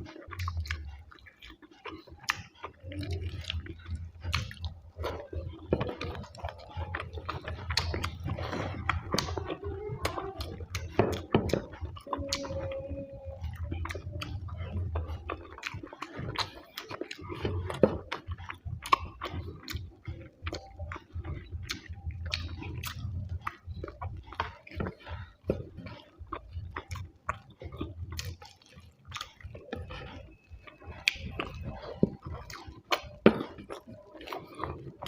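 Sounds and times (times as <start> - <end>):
person chewing and smacking: 0.0 - 35.0
wet mouth clicks: 0.0 - 35.0.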